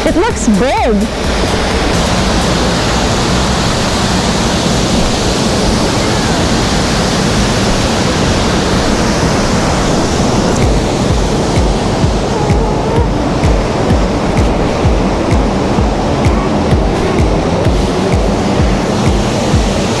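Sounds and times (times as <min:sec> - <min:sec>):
waterfall pouring heavily: 0:00.0 - 0:20.0.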